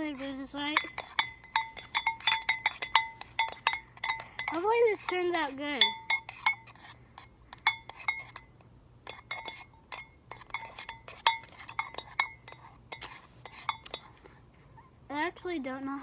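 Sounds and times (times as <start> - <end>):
spoon clinking against bowl: 0.6 - 14.2.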